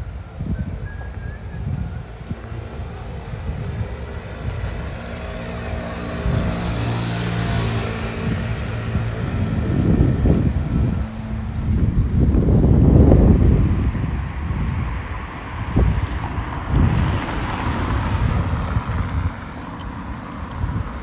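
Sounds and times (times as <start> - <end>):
vehicle engine hum: 0.0 - 21.0
wind buffeting microphone: 0.0 - 21.0.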